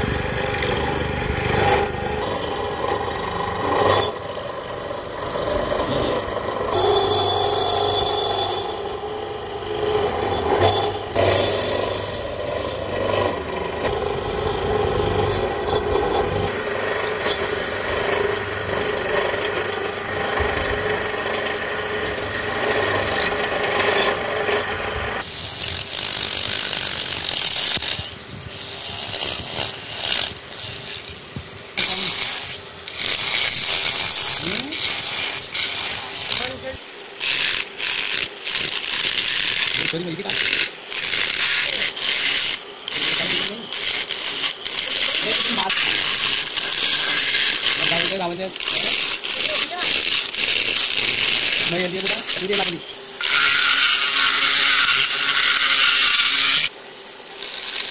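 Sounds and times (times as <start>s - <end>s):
drill bit boring into wood: 0.0s - 31.2s, 31.8s - 57.9s.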